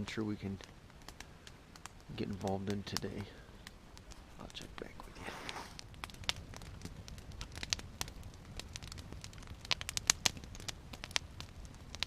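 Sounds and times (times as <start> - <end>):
campfire crackling: 0.0 - 12.0
sharp pops of fire: 0.0 - 12.0.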